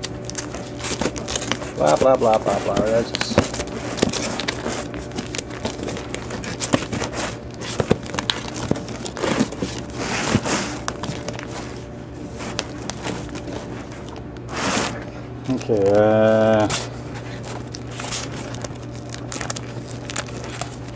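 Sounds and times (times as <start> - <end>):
plastic bags and cardboard rustling: 0.0 - 20.9.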